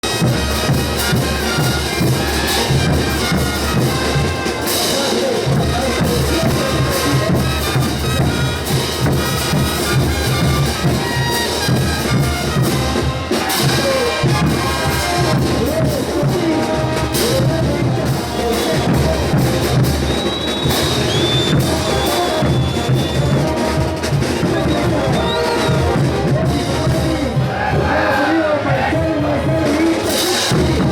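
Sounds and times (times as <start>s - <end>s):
brass instruments: 0.0s - 30.9s
crowd noise: 0.0s - 30.9s
steady drum beat: 0.0s - 30.9s.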